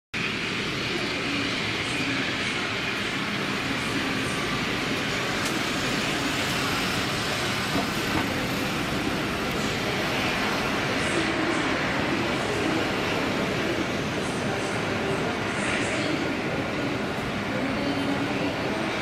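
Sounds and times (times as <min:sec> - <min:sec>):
jet engines at takeoff thrust: 0:00.2 - 0:19.0.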